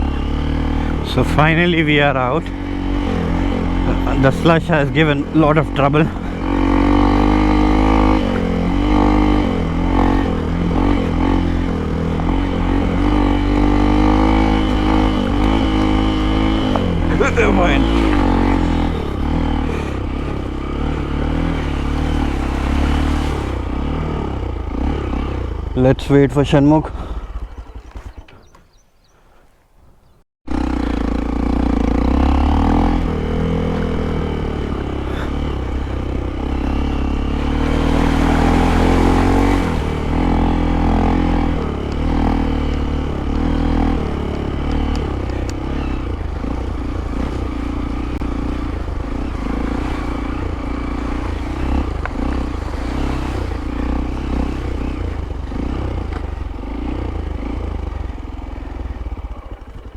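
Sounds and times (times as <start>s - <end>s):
motorcycle engine revving: 0.0s - 28.8s, 30.0s - 59.9s.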